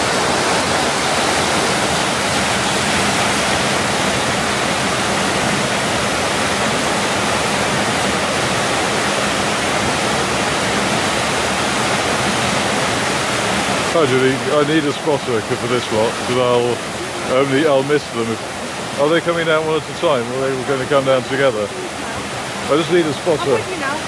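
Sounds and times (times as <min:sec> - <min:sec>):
whitewater rapids rushing: 0:00.0 - 0:24.0.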